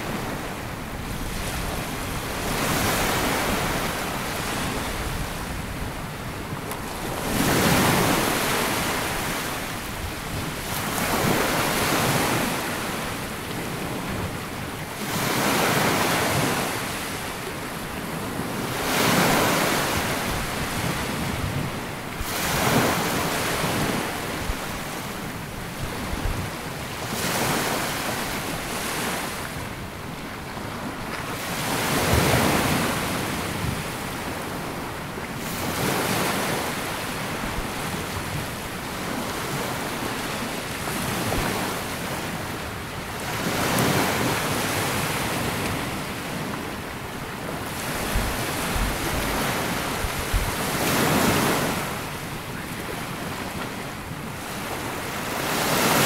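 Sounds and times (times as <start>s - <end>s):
small waves breaking on sand: 0.0s - 29.9s, 30.8s - 56.0s.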